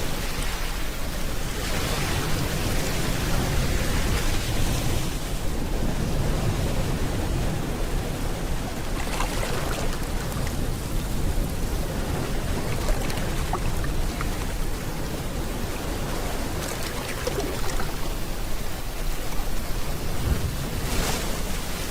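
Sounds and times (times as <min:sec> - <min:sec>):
steady rain falling: 0:00.0 - 0:20.8
ocean waves rushing: 0:00.0 - 0:21.9.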